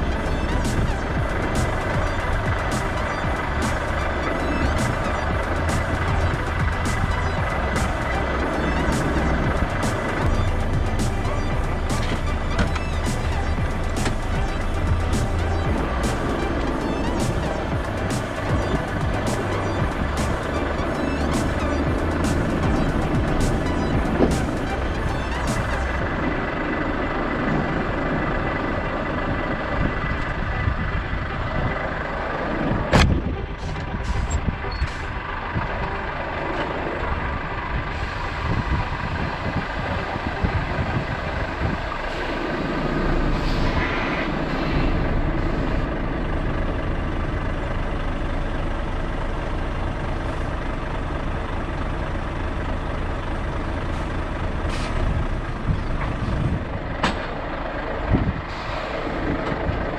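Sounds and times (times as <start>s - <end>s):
lorry engine running: 0.0s - 59.9s
road noise: 0.0s - 59.9s.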